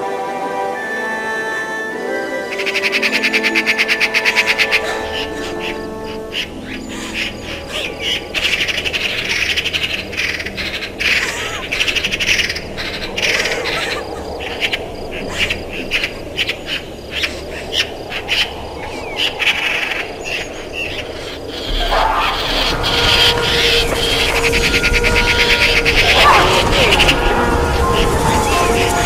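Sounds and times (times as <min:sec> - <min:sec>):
birds and insects chirping: 0:00.0 - 0:29.0.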